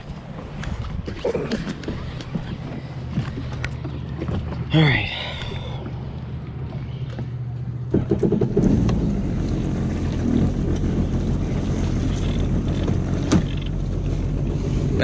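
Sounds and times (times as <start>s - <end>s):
watercraft engine running: 0.0s - 15.0s.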